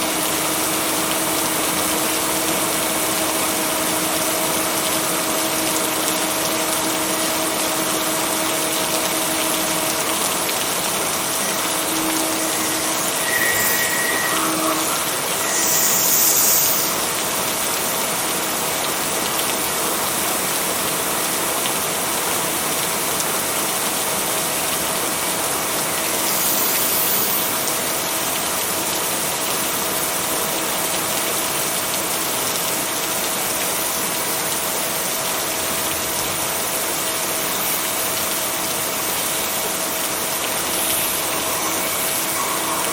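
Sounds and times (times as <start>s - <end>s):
heavy rainfall: 0.0s - 42.9s.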